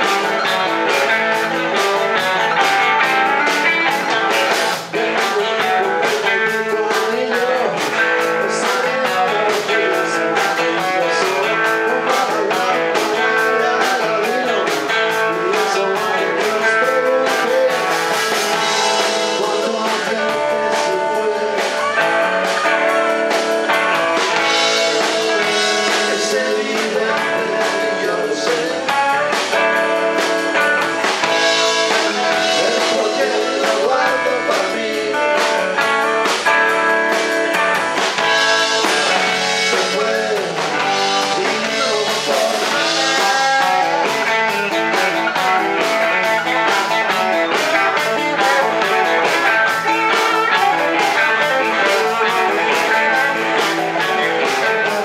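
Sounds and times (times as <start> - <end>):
bass guitar: 0.0 - 55.0
drums: 0.0 - 55.0
electric guitars: 0.0 - 55.0
man singing: 0.0 - 55.0.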